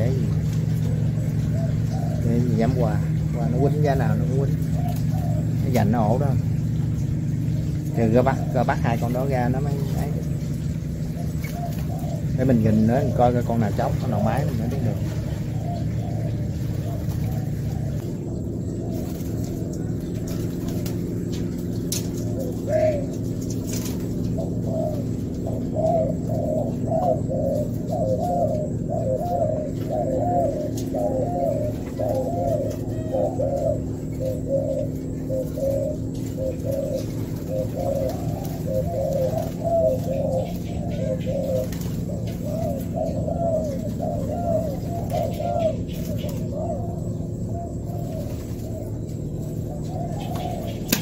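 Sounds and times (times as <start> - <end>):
doves cooing: 0.0 - 51.0
steady low hum: 0.0 - 51.0.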